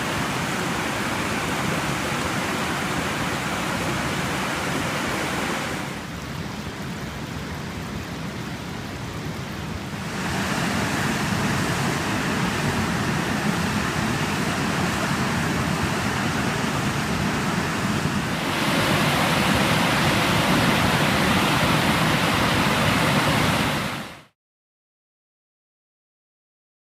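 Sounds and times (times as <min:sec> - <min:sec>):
waterfall rushing water: 0:00.0 - 0:24.4.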